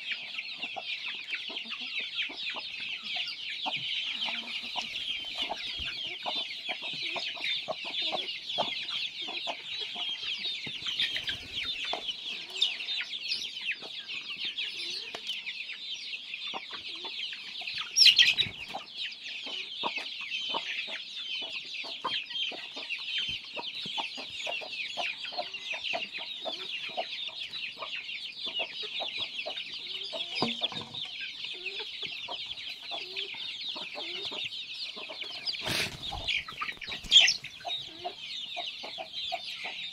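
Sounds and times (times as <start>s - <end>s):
chickens clucking: 0.0s - 39.9s
high-pitched chirping chorus: 0.0s - 39.9s.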